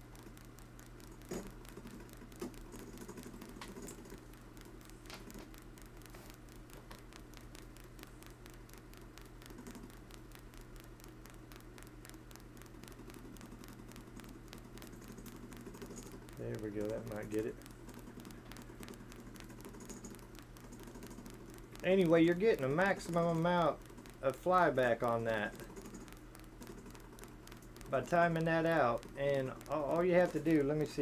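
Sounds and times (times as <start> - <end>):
rotary switch clicking rapidly: 0.0 - 31.0
sharp clicks: 0.0 - 31.0
steady low hum: 0.0 - 31.0.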